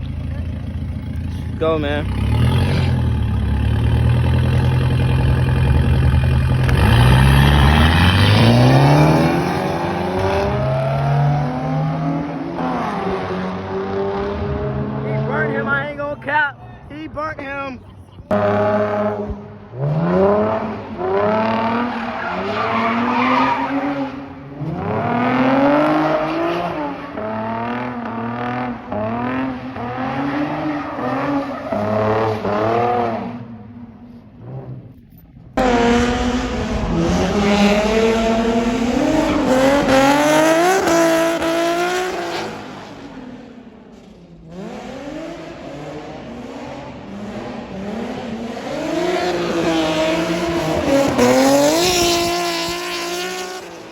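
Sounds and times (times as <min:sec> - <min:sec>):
car engines revving: 0:00.0 - 0:53.9.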